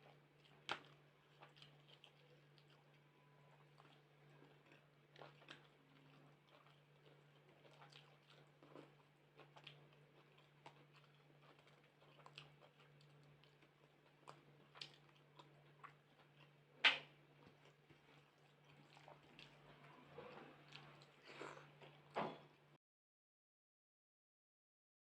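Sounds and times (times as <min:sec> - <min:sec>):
chewing and wet mouth sounds: 0:00.0 - 0:22.2
faint steady hum: 0:00.0 - 0:22.8.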